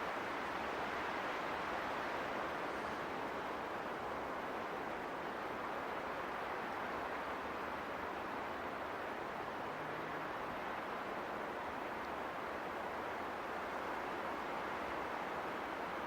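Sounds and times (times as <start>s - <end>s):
wind through trees: 0.0s - 16.0s.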